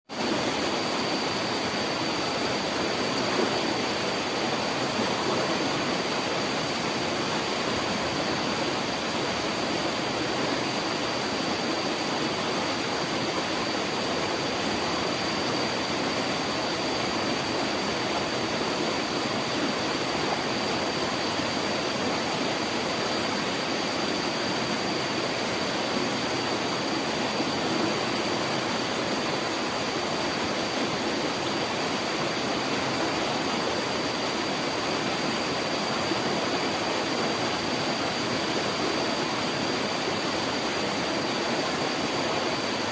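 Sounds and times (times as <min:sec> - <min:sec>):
water rushing in a stream: 0:00.1 - 0:42.9.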